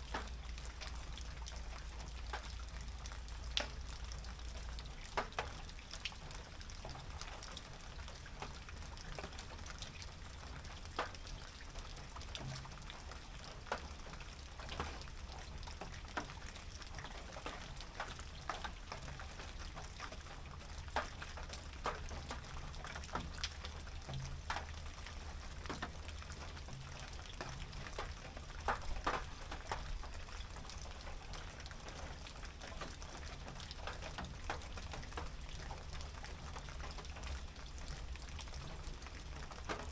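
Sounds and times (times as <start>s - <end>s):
rain drops tapping tin roof: 0.0s - 39.9s
steady rain hiss: 0.0s - 39.9s.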